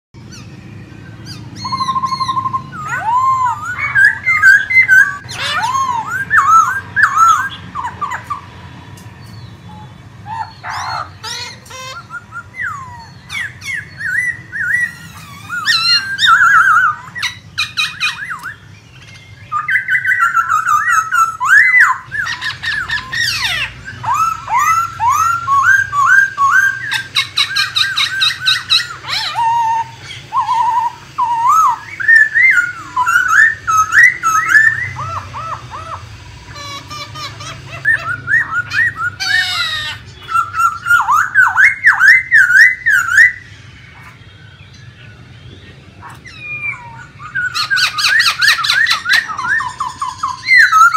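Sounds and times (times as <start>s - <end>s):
bird singing whistled phrases: 0.2s - 8.4s, 9.3s - 36.2s, 36.8s - 45.2s, 46.0s - 50.9s
bird squawking: 0.2s - 50.9s.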